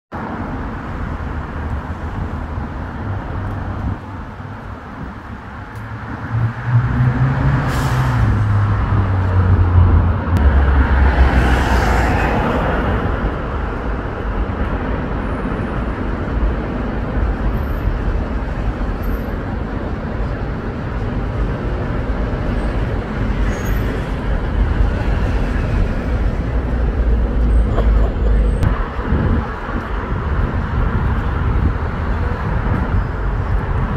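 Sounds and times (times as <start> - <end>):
heavy vehicle engine rumble: 0.2 - 11.4, 12.1 - 33.9
cars driving past: 0.2 - 33.9.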